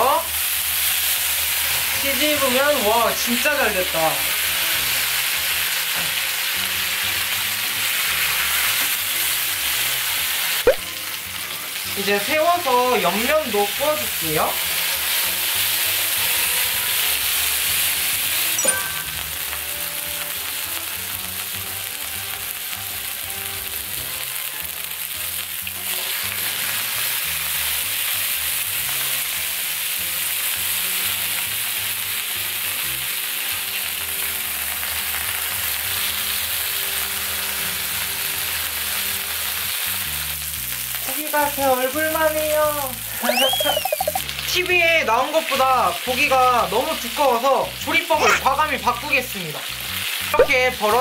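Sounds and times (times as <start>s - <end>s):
beef sizzling in hot oil: 0.0s - 51.0s.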